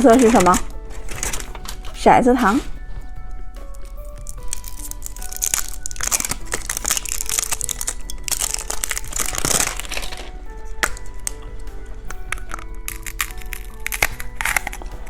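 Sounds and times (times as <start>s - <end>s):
light background music: 0.0s - 15.0s
plastic packaging crinkling: 0.0s - 15.0s.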